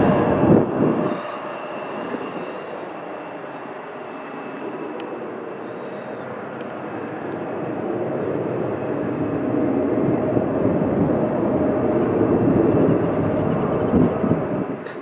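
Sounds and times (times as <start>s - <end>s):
jet engines rushing with whine: 0.0s - 15.0s.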